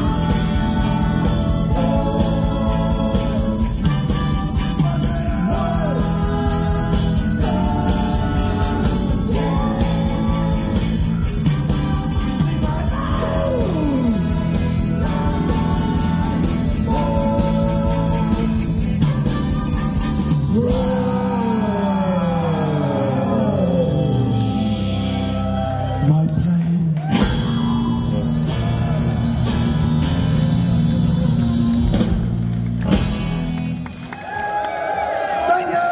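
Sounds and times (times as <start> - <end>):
voices singing: 0.0 - 32.0
saxophone: 0.0 - 32.6
live rock band playing: 0.0 - 34.2
electric guitars: 0.0 - 35.3
drums: 0.0 - 35.9.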